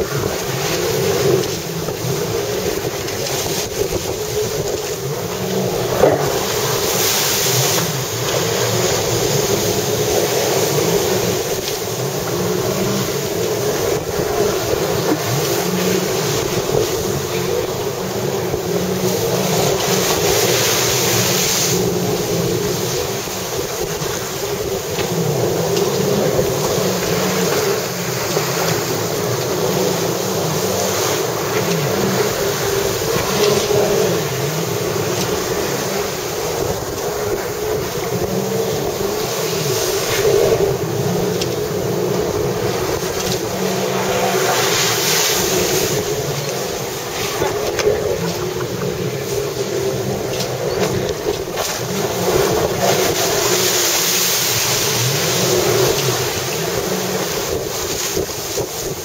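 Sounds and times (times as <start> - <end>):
churned water rushing: 0.0 - 59.0
jet ski engine revving: 0.0 - 59.0
wind on microphone: 0.0 - 59.0.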